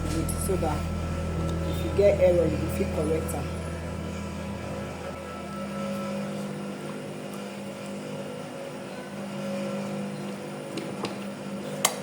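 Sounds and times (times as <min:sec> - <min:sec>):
motor-like hum: 0:00.0 - 0:12.0.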